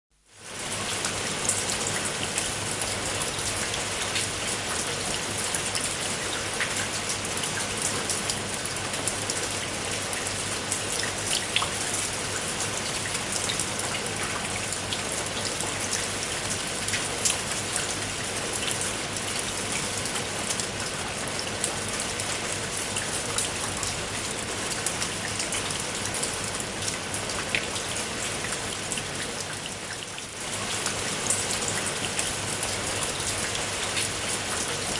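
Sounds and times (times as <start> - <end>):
rain drops ticking on a surface: 0.2 - 34.9
steady rain hiss: 0.2 - 34.9.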